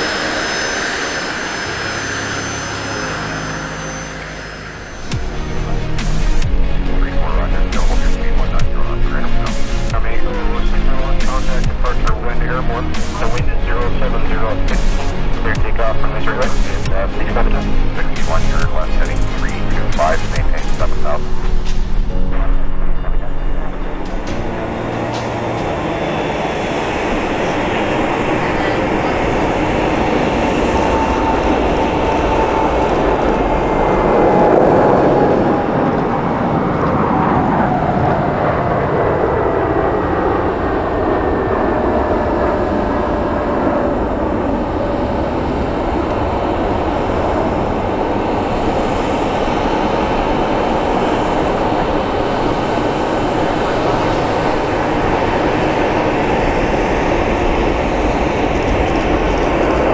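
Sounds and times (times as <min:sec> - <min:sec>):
jet engine rumble: 0:00.0 - 0:59.9
jet engine whine: 0:00.0 - 0:59.9.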